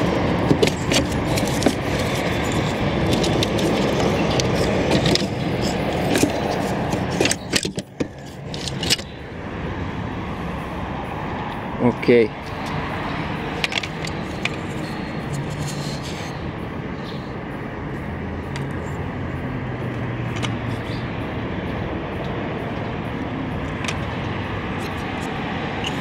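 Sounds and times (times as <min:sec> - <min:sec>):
vehicle traffic: 0:00.0 - 0:26.0.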